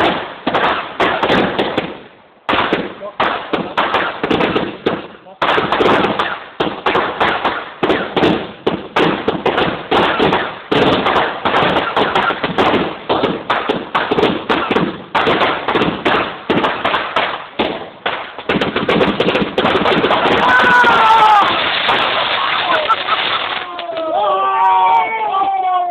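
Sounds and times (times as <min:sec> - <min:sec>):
fireworks banging: 0:00.0 - 0:24.2.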